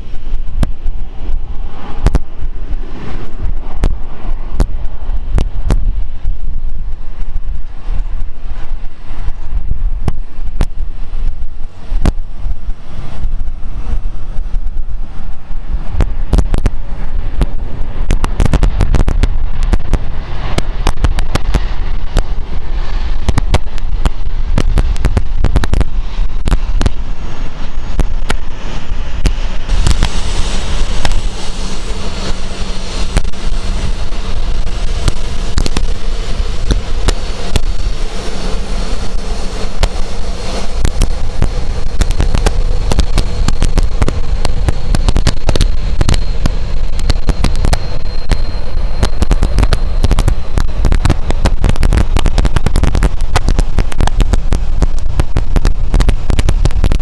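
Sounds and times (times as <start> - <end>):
jet engine crackling rumble: 0.0 - 57.0
jet engine whine and hiss: 0.0 - 57.0.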